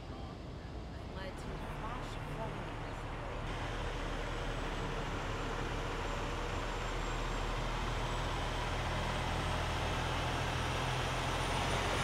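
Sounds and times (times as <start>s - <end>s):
diesel truck engine running: 1.2s - 12.0s.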